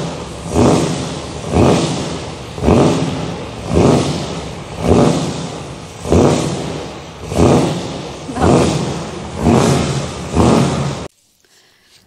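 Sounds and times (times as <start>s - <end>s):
surging engine-like noise: 0.0s - 11.1s.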